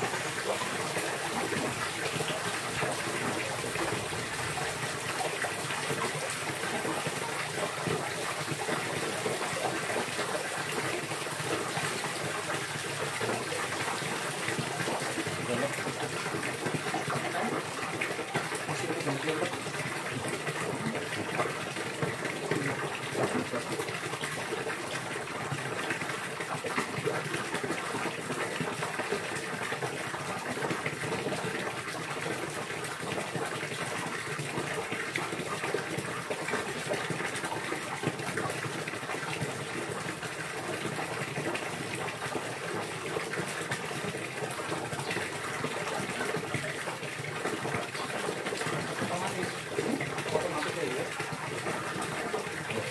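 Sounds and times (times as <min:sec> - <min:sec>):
gushing splashing water: 0:00.0 - 0:52.9.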